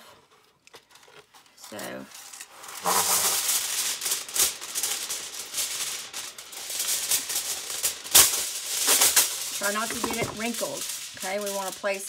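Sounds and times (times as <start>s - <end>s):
aluminum foil crinkling: 0.6s - 2.4s, 3.5s - 11.8s.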